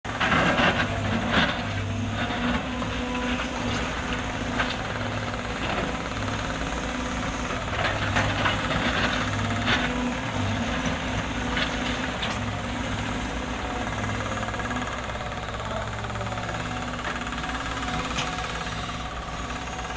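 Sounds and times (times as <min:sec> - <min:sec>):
excavator diesel engine running: 0:00.1 - 0:19.9.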